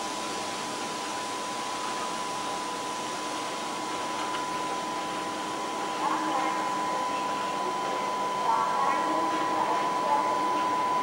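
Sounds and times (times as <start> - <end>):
locomotive cooling blowers whirring: 0.0 - 11.0.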